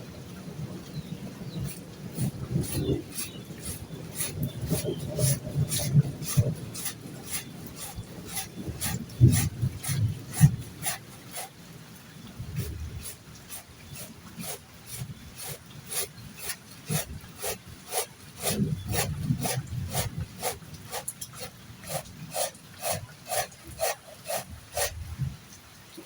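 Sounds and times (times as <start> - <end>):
rhythmic rasping strokes: 1.6 - 11.6, 12.4 - 25.4.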